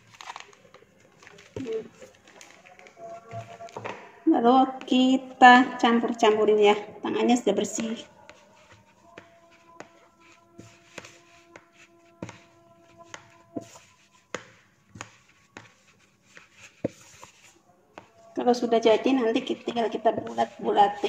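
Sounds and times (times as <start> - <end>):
hand kneading dough: 0.0 - 21.0.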